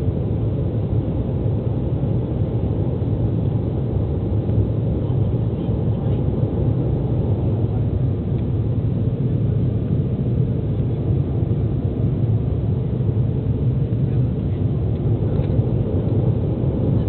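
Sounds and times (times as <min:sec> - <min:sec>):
jet engines and airflow in cabin: 0:00.0 - 0:17.0.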